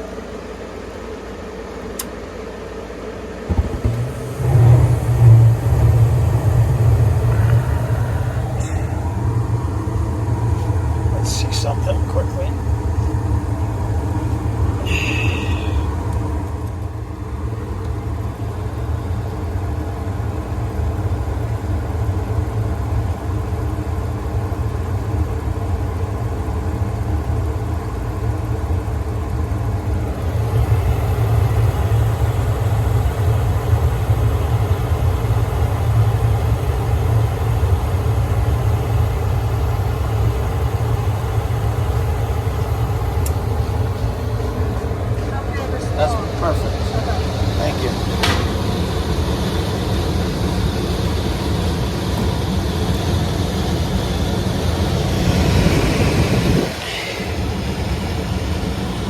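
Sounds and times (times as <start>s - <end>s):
motor humming drone: 0.0s - 59.0s.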